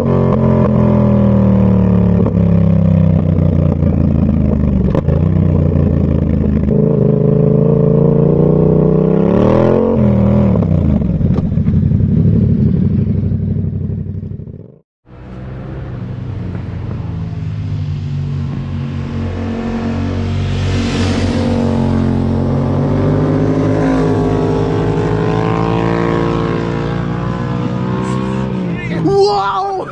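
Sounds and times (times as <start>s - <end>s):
motorcycle engine revving: 0.0s - 29.5s.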